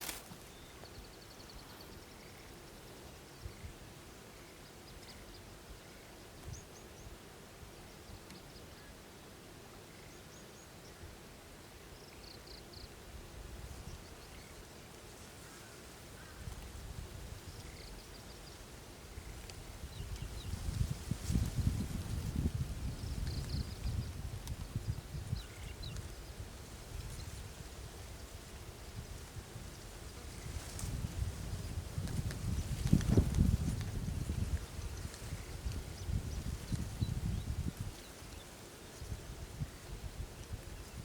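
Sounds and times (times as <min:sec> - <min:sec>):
small birds chirping: 0:00.0 - 0:11.1, 0:13.7 - 0:41.0
steady outdoor hiss: 0:00.0 - 0:41.0.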